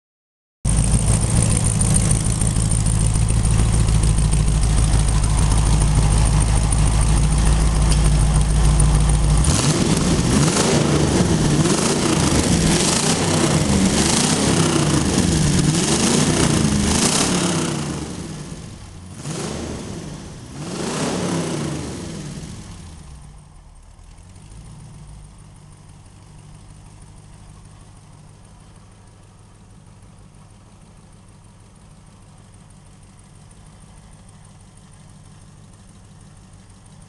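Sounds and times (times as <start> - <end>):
engine idling: 0.7 - 37.0.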